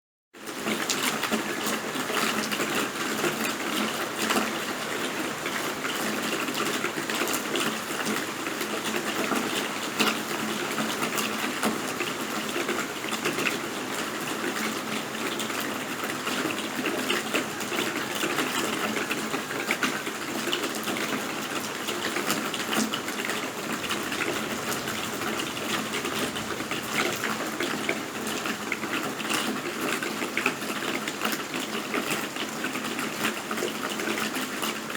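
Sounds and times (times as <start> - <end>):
steady rain falling: 0.4 - 34.9.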